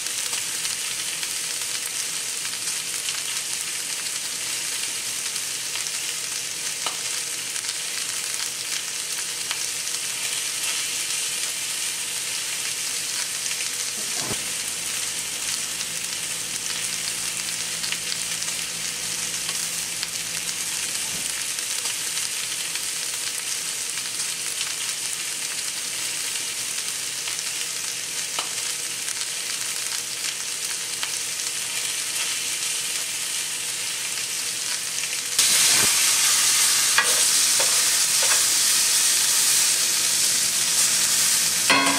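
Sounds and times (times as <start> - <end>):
steaks sizzling in a skillet: 0.0 - 41.9.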